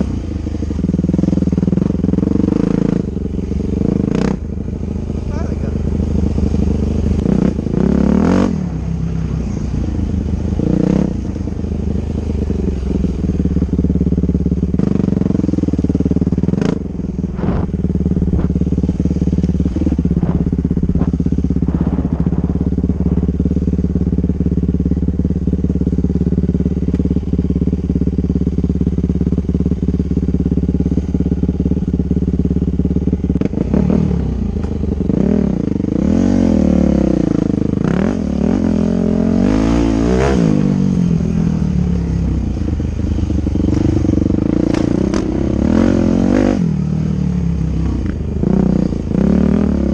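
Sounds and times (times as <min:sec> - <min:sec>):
dirt bike engine revving: 0:00.0 - 0:32.6, 0:33.2 - 0:49.9.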